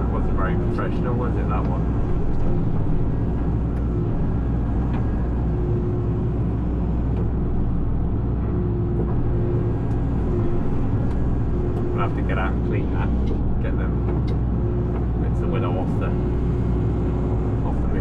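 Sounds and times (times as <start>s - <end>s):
excavator diesel engine running: 0.0s - 18.0s
faint whine: 0.0s - 18.0s.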